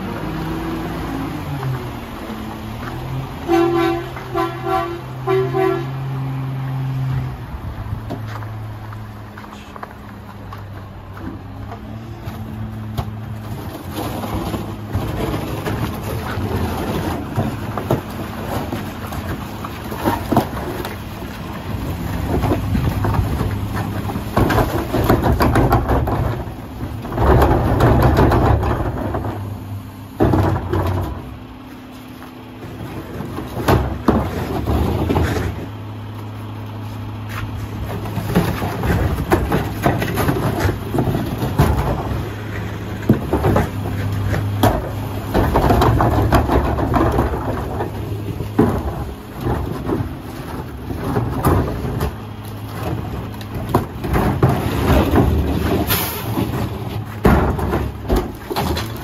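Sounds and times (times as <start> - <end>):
garbage truck engine idling: 0.0 - 59.0
garbage truck packer running: 0.0 - 59.0
metal clanks from carts: 8.0 - 59.0.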